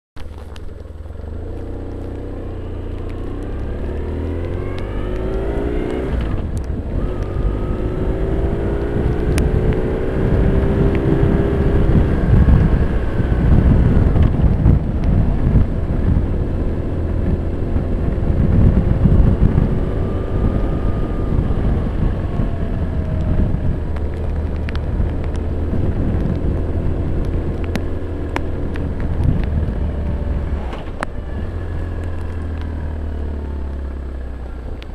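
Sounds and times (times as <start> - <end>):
motorcycle engine accelerating: 0.2 - 34.9
wind rumble on microphone: 0.2 - 34.9.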